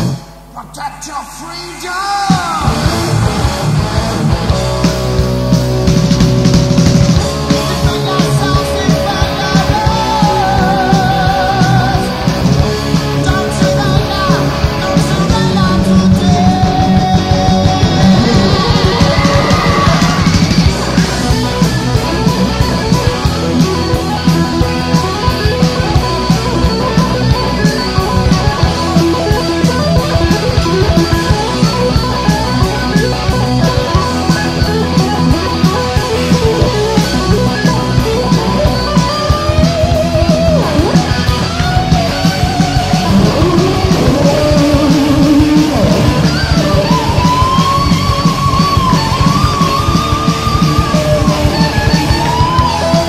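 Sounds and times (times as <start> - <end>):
heavy metal band playing: 0.0 - 53.0
lead guitar with pitch bends: 0.0 - 53.0.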